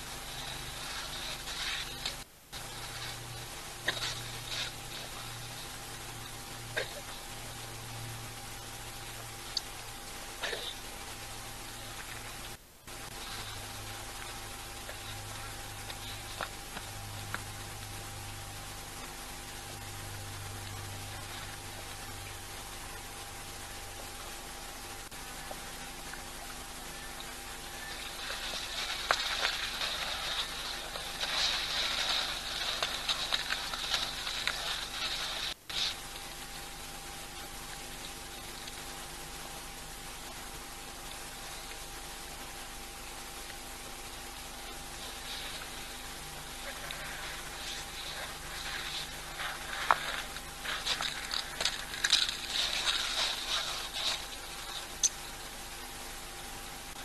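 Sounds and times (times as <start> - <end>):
small ticks and patters: 0.0 - 57.0
steady high hiss: 0.0 - 57.0.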